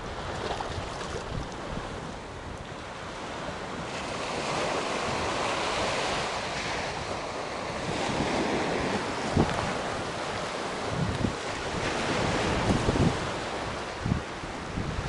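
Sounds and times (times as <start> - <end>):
surf breaking on a beach: 0.0 - 15.0
waves washing against a pier: 0.0 - 15.0
wind rumbling on the microphone: 0.0 - 15.0.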